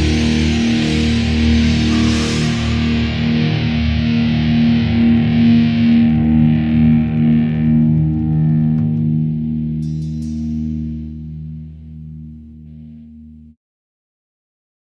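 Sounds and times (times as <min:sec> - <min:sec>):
distorted electric guitar chord: 0:00.0 - 0:13.5.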